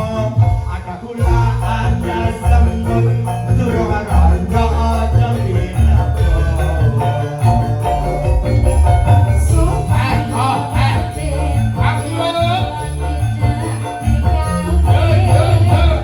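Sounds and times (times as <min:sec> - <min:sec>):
heavy bass line: 0:00.0 - 0:16.0
live band music: 0:00.0 - 0:16.0
rhythmic percussion: 0:00.0 - 0:16.0.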